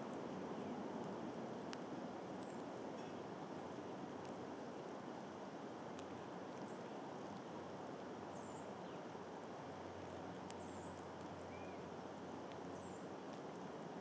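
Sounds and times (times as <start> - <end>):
birds chirping: 0.0 - 4.9, 5.6 - 13.6
wind: 0.0 - 14.0.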